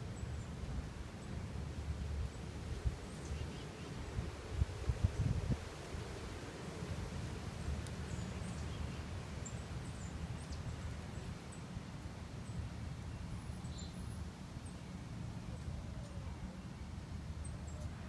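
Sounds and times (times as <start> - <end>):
songbirds chirping: 0.0 - 6.4, 7.4 - 18.0.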